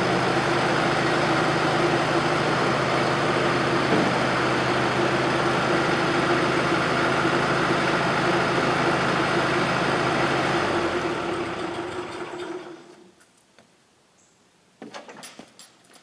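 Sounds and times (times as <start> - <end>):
loader engine running and stopping: 0.0 - 13.1.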